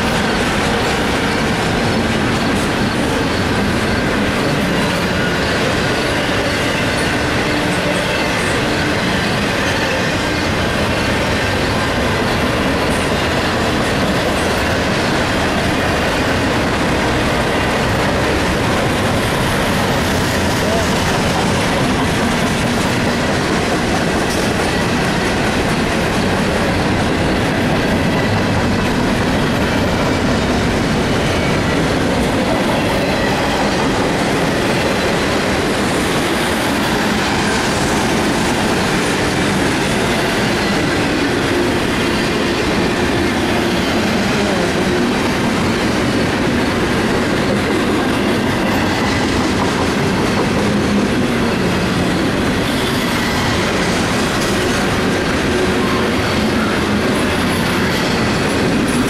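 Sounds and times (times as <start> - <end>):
steel wheels on rails: 0.0 - 59.0.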